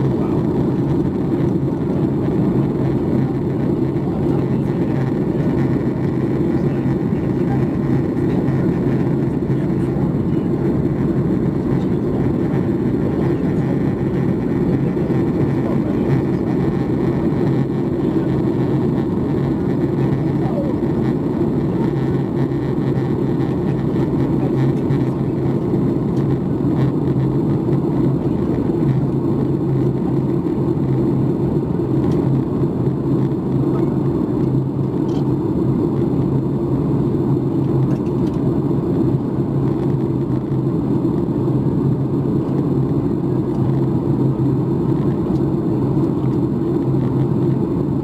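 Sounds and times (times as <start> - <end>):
constant low hum: 0.0 - 48.0
jet engine and airflow drone: 0.0 - 48.0.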